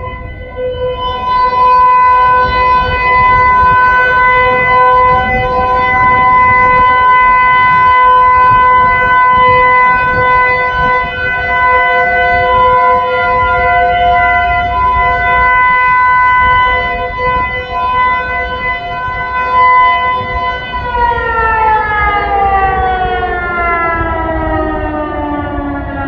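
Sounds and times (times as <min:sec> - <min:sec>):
warning siren wailing: 0:00.0 - 0:26.0.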